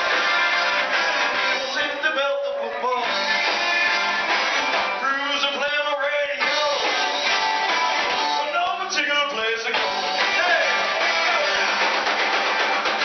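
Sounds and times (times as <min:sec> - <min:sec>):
person singing: 0:00.0 - 0:12.2
live band playing dance music: 0:00.0 - 0:13.0.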